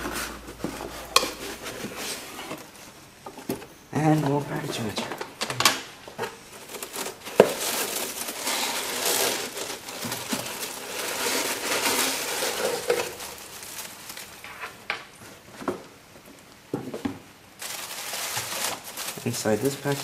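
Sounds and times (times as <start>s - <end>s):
paper packing crinkling and rustling: 0.0s - 15.8s, 17.6s - 20.0s.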